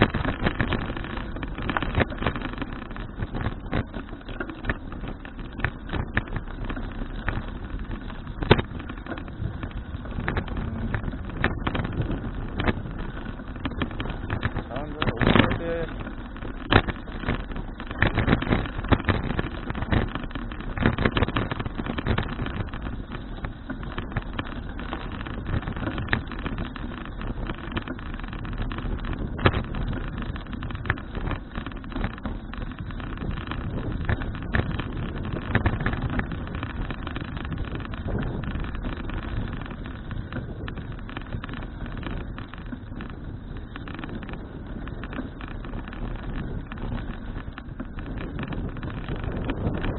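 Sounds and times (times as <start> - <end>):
bicycle bumps and rattles: 0.0 - 49.9
wind rumbling on microphone: 0.0 - 49.9.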